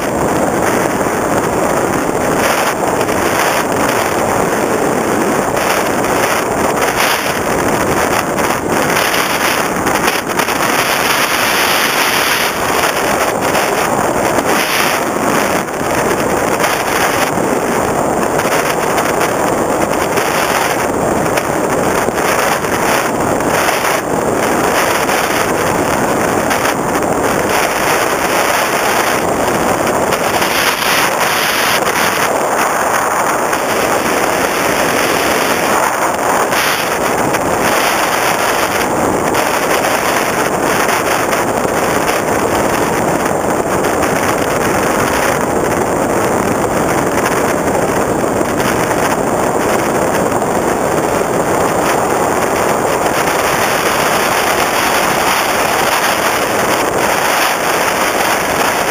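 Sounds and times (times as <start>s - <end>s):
wind rushing over camera: 0.0s - 58.9s.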